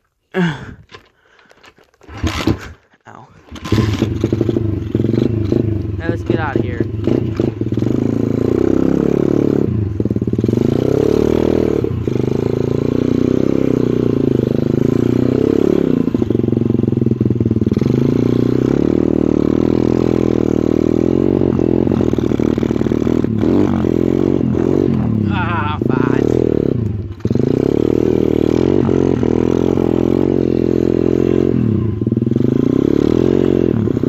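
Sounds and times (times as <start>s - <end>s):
motorcycle engine revving: 2.0s - 2.8s, 3.4s - 34.0s.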